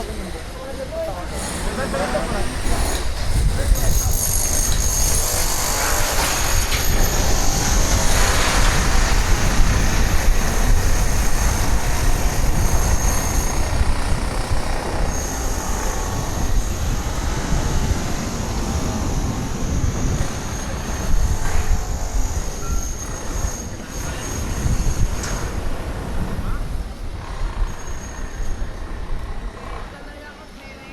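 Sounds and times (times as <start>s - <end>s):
wind rushing over microphone: 0.0s - 30.6s
steady high whine: 0.0s - 30.9s.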